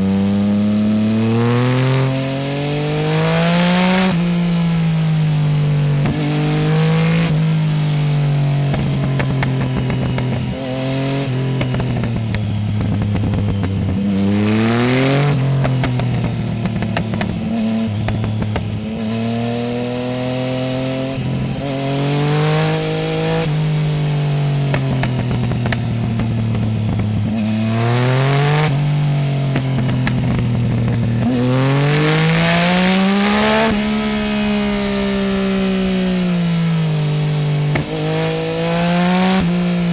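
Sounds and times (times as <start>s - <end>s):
motorcycle engine revving: 0.0s - 39.9s
exhaust crackle: 2.8s - 19.3s, 22.7s - 27.8s, 28.6s - 39.9s.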